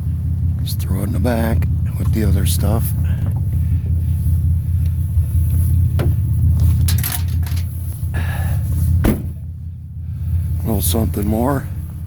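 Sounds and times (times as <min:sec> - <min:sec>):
motor vehicle rumbling: 0:00.0 - 0:12.0.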